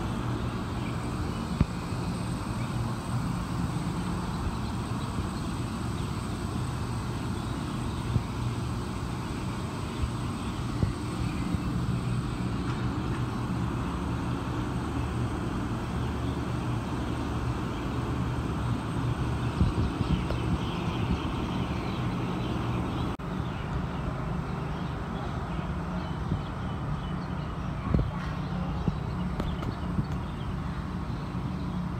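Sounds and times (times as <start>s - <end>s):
low mechanical drone: 0.0s - 31.9s.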